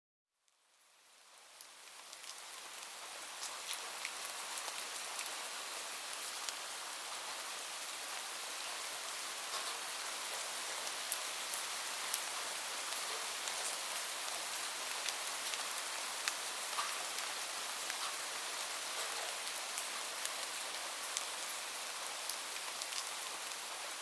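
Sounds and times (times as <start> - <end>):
steady rain falling: 0.5 - 24.0.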